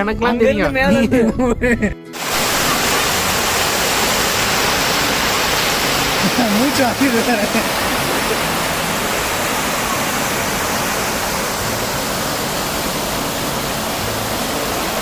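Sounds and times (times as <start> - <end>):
rush of falling water: 2.2 - 15.0.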